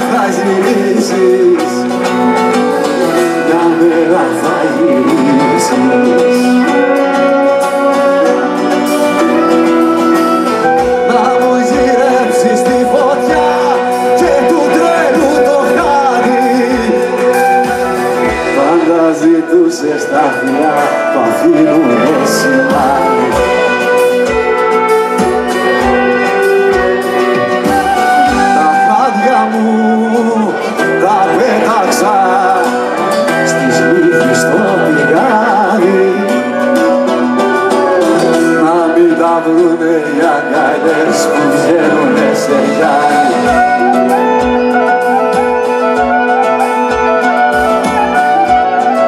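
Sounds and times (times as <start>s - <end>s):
folk band melody: 0.0s - 49.0s
lute strumming: 0.0s - 49.0s.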